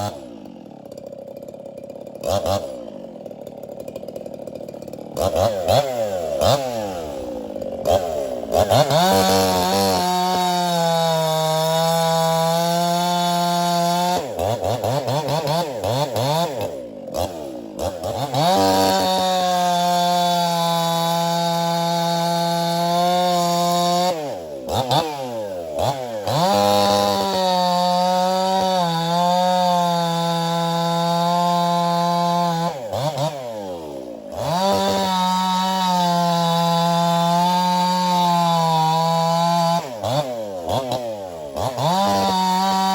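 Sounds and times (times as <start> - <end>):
chainsaw cutting logs: 0.0 - 42.9.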